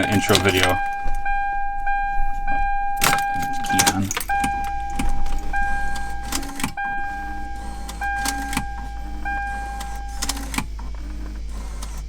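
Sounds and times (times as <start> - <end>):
car warning chime: 0.0 - 12.0
steady low hum: 0.0 - 12.0.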